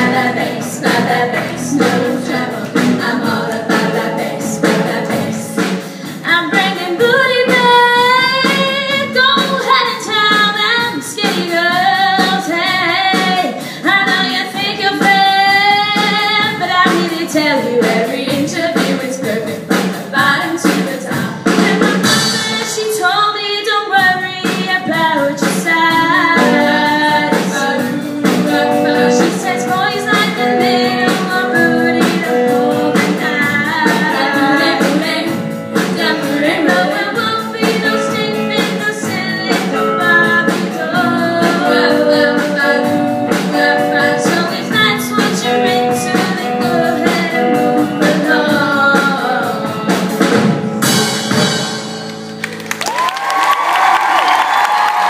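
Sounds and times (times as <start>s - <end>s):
girls singing together: 0.0s - 19.0s, 20.6s - 49.4s
band with guitar bass and drums: 0.0s - 55.0s.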